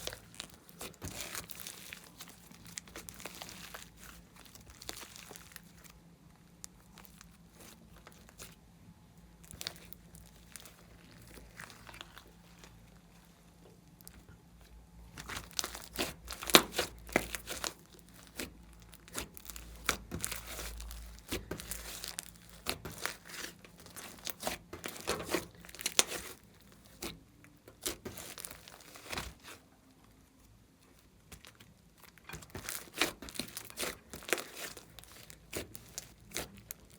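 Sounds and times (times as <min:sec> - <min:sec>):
slime squishing and crackling: 0:00.0 - 0:08.7, 0:09.4 - 0:36.9.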